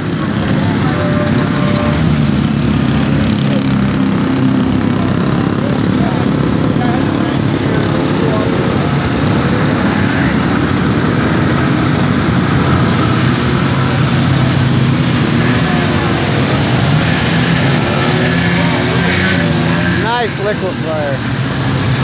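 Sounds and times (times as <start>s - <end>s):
snowmobile engines droning: 0.0s - 22.0s.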